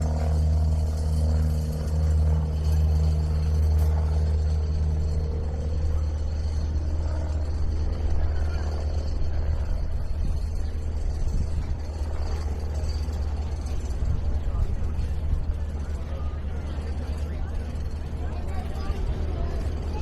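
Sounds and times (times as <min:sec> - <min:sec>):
machinery droning: 0:00.0 - 0:20.0.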